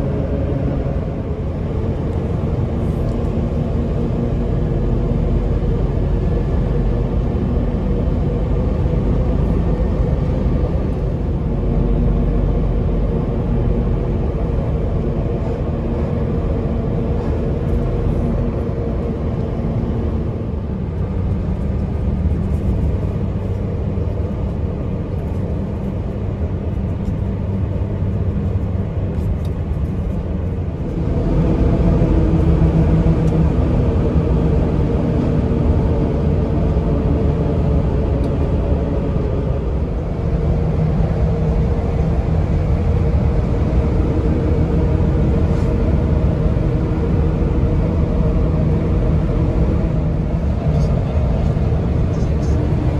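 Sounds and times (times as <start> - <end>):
engine hum inside vehicle: 0.0 - 52.9.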